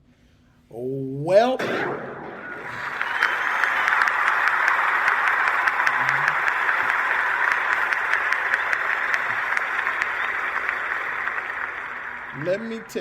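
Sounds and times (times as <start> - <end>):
crowd applauding: 2.5 - 13.0.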